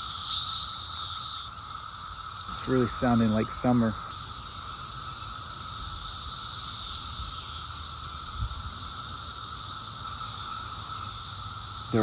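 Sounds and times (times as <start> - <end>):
cicadas droning chorus: 0.0 - 12.0.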